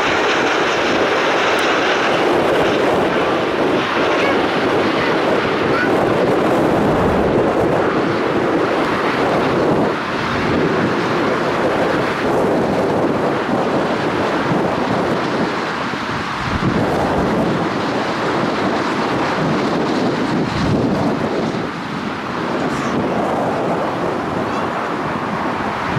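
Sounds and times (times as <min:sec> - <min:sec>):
jet airliner landing: 0:00.0 - 0:25.9
wind buffeting microphone: 0:00.0 - 0:25.9.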